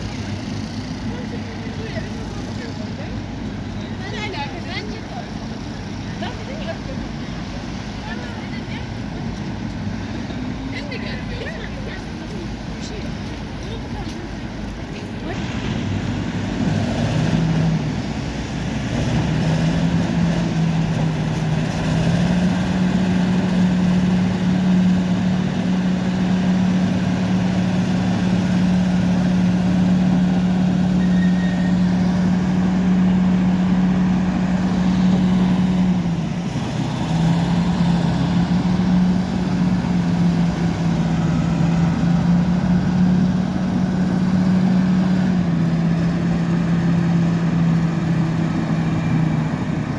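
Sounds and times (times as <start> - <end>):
bulldozer diesel engine: 0.0 - 49.9.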